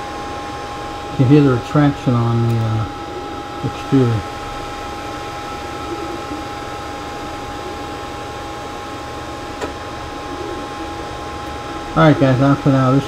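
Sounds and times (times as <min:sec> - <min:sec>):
fan whirring: 0:00.0 - 0:13.0
high whine: 0:00.0 - 0:13.0.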